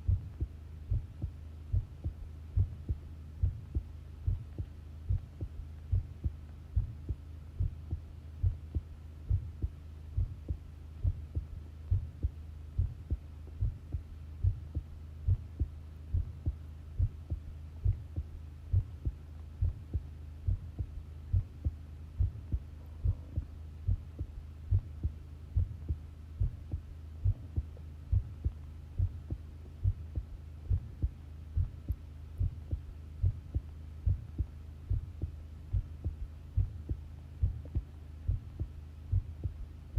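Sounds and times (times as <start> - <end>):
heartbeat thuds: 0.0 - 39.7
low hum: 0.0 - 39.9.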